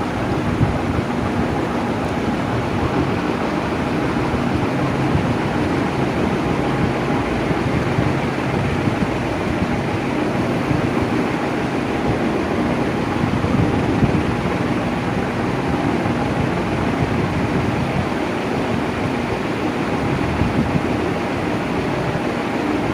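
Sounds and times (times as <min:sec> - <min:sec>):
electric fan air rush: 0:00.0 - 0:22.9
faint motor hum: 0:00.0 - 0:22.9.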